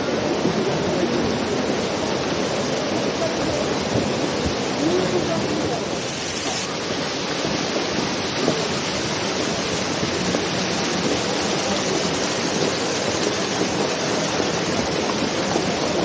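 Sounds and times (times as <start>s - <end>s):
water cascading over rocks: 0.0s - 16.0s.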